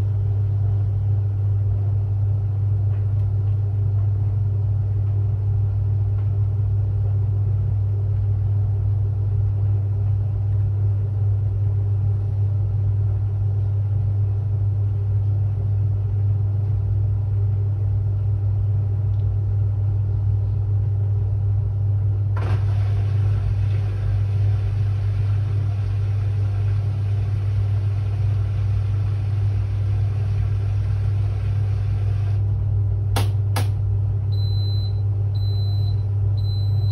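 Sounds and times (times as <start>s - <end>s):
washing machine humming: 0.0s - 36.9s.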